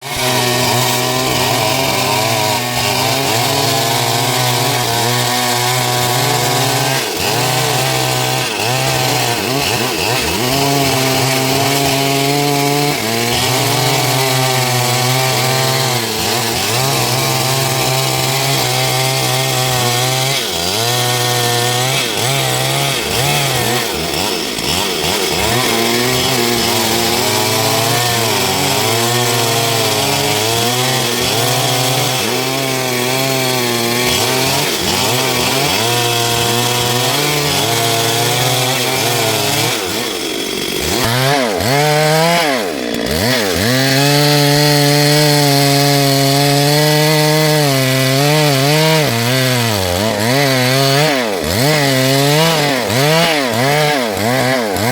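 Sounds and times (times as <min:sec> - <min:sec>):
chainsaw cutting dry wood: 0:00.0 - 0:54.9.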